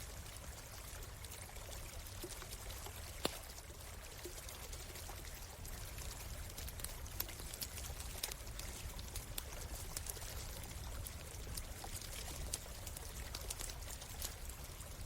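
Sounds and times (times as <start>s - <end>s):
stream running: 0.0s - 15.0s
campfire crackling and popping: 0.8s - 15.0s.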